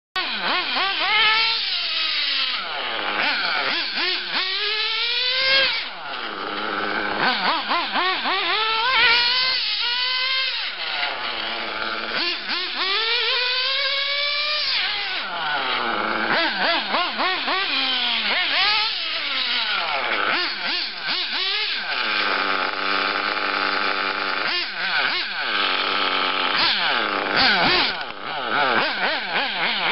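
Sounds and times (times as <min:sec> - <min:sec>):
rc car engine revving: 0:00.2 - 0:29.9.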